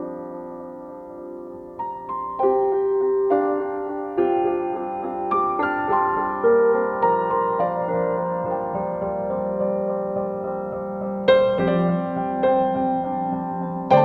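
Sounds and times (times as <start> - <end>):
slow soft piano music: 0.0 - 14.0.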